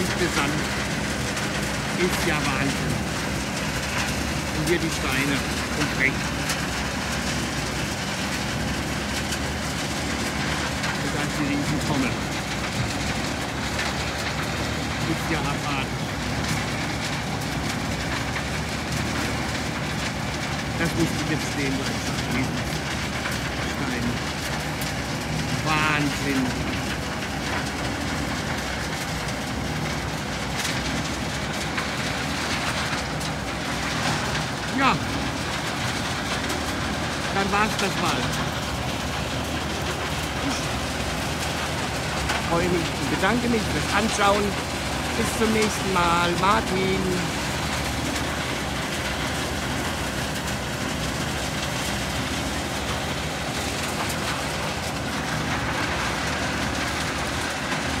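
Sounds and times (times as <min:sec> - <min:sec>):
engine droning: 0:00.0 - 0:58.0
machine hum: 0:00.0 - 0:58.0
rotating drum churning: 0:00.0 - 0:58.0.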